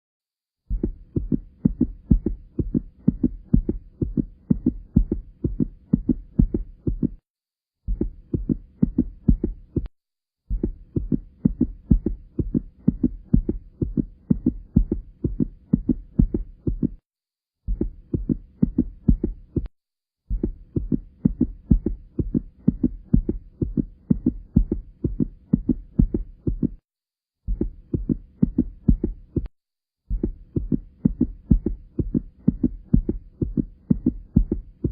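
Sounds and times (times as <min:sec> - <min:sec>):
heartbeat thumps: 0:00.7 - 0:07.2, 0:07.8 - 0:17.0, 0:17.6 - 0:26.8, 0:27.4 - 0:34.9.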